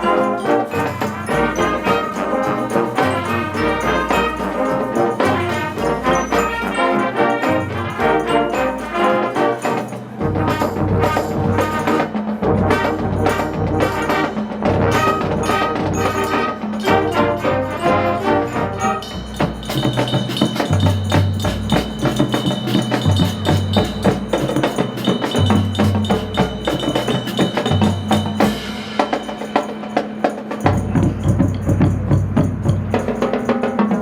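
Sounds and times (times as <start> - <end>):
horns playing: 0.0 - 29.5
marching band drums: 0.0 - 34.0.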